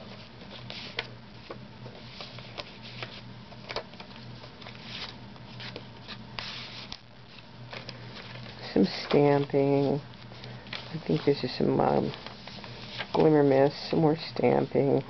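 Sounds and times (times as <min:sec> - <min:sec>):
low steady hum: 0:00.0 - 0:15.0
paper pages rustling: 0:00.0 - 0:15.0.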